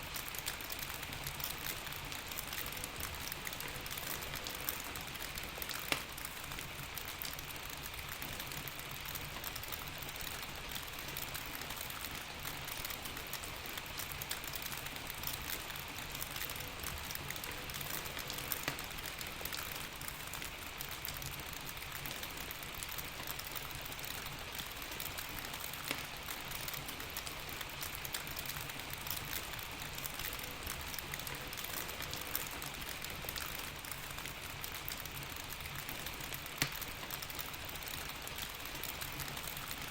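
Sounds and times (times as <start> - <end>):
fireplace crackling: 0.1 - 39.9.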